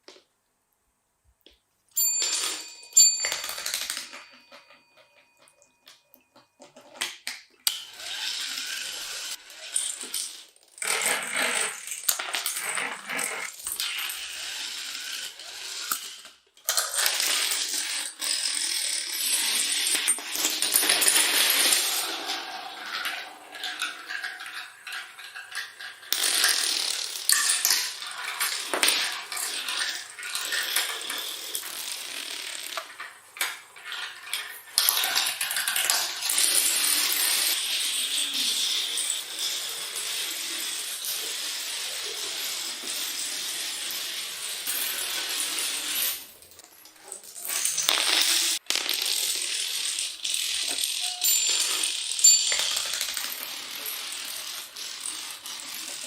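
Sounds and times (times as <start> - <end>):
dominoes clattering: 1.9 - 4.8, 6.6 - 56.0.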